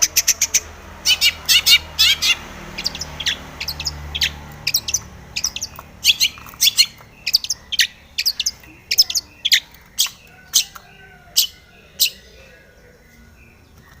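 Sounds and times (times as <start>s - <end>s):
bird chirping high sharp notes: 0.0s - 12.4s.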